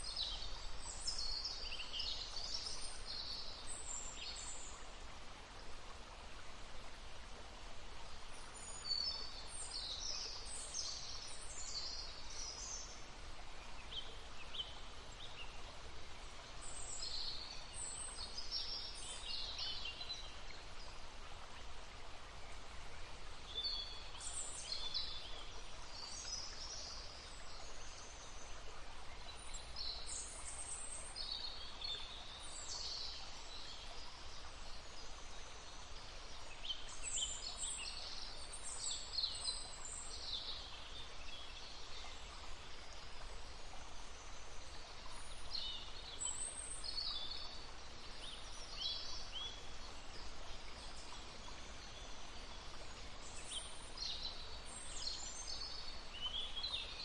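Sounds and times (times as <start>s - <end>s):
songbirds chirping: 0.0s - 57.0s
stream flowing: 0.0s - 57.0s.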